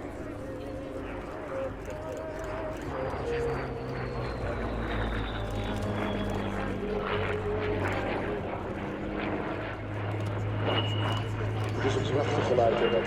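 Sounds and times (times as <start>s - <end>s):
faint high whine: 0.0s - 13.0s
propeller plane engine drone: 0.0s - 13.0s.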